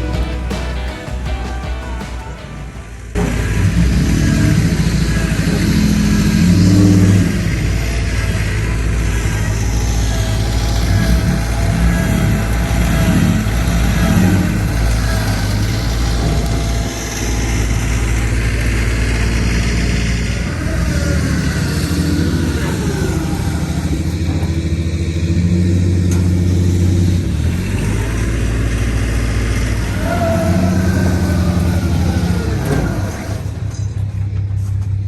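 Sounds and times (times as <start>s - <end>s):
heavy engine revving under load: 1.8s - 35.0s.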